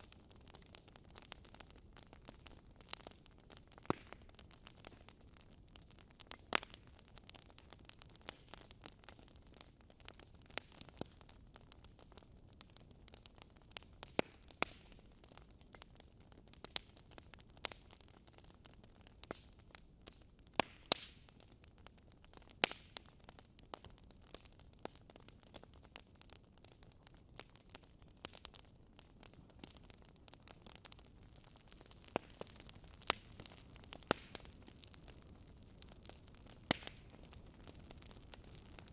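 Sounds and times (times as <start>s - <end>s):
soft steady hiss: 0.0s - 38.9s
wood fire crackling: 0.0s - 38.9s.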